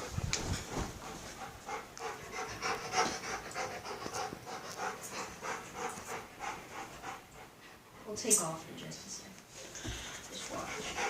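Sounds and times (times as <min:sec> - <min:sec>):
dog panting: 0:00.0 - 0:08.3, 0:09.7 - 0:11.0.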